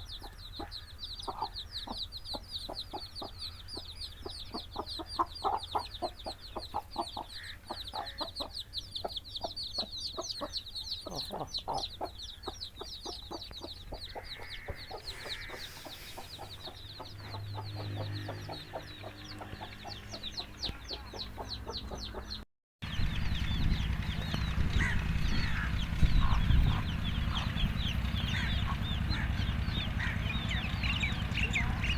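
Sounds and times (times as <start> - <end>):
hen clucking: 0.0 - 22.4, 23.1 - 31.9
chicks peeping: 0.0 - 31.9.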